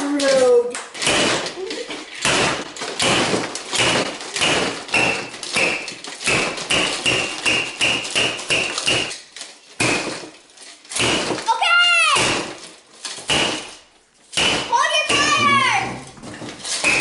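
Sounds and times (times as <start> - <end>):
toy hammer pounding chocolate: 0.0 - 13.8, 14.4 - 17.0.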